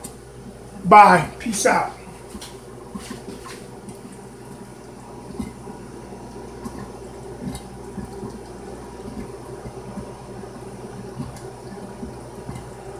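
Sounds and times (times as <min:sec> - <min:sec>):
steady hum: 0:00.0 - 0:12.9
sauce bubbling in a pot: 0:01.7 - 0:12.9.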